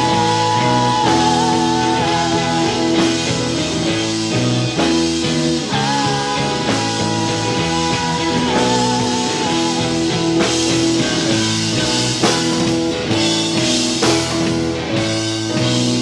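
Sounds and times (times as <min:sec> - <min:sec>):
drum kit: 0:00.0 - 0:16.0
electric guitar: 0:00.0 - 0:16.0.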